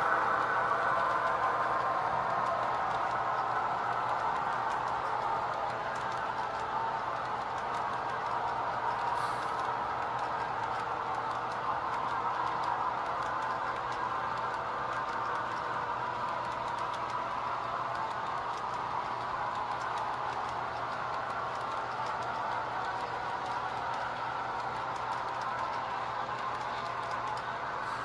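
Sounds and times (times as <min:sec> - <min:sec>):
model train wheels rolling on rails: 0:00.0 - 0:28.0
wheels clicking over rail joints: 0:00.0 - 0:28.0.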